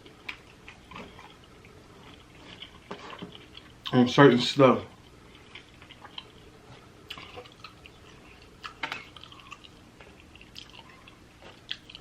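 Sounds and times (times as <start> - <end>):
wet chewing: 0.0 - 4.0, 4.9 - 12.0.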